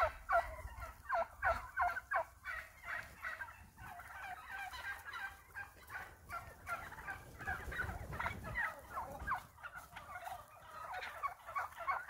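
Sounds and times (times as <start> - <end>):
flock of turkeys calling: 0.0 - 12.0.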